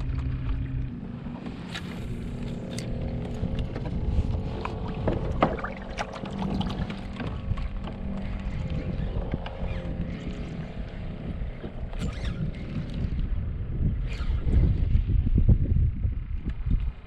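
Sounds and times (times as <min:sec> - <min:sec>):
kayak drive whirring hum: 0:00.0 - 0:17.0
low wind: 0:00.0 - 0:17.0
water noise: 0:00.0 - 0:17.0.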